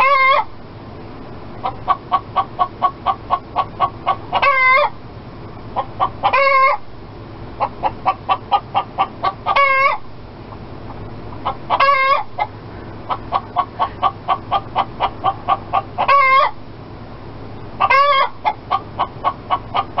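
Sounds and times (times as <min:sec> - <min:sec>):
hen cackling: 0:00.0 - 0:00.6, 0:01.6 - 0:05.0, 0:05.7 - 0:06.9, 0:07.5 - 0:16.6, 0:17.8 - 0:20.0.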